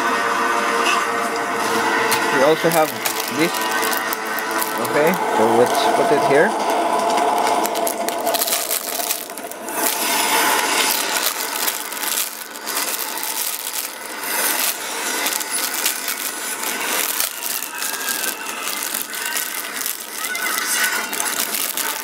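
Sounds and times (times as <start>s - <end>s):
plastic bag crinkling: 1.6s - 22.0s
plastic pieces clicking together: 2.1s - 5.2s, 6.6s - 22.0s.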